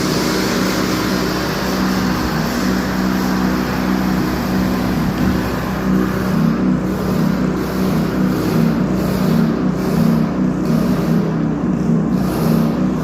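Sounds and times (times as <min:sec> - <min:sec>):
small pump engine humming: 0:00.0 - 0:13.0.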